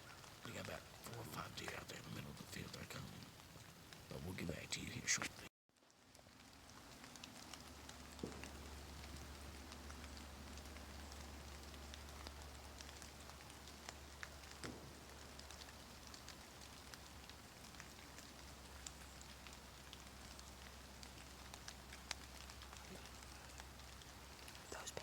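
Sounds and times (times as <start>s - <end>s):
faint steady hiss: 0.0s - 25.0s
light ticks and clicks: 0.0s - 25.0s.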